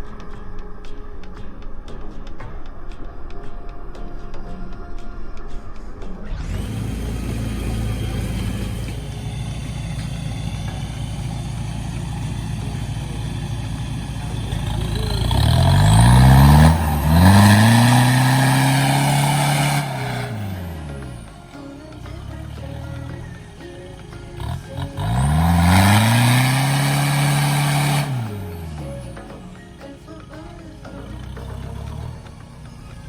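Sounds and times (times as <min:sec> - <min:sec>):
off-road vehicle engine revving: 0:06.3 - 0:33.0.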